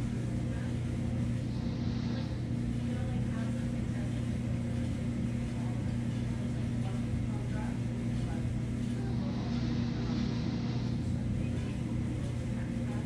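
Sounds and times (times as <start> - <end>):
faint voices: 0.0 - 13.0
low machine hum: 0.0 - 13.0.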